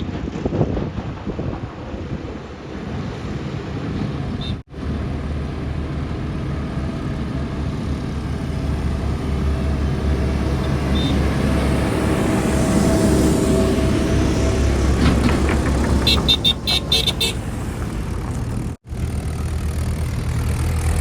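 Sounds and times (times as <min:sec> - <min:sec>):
heavy vehicle engine rumbling: 0:00.0 - 0:21.0.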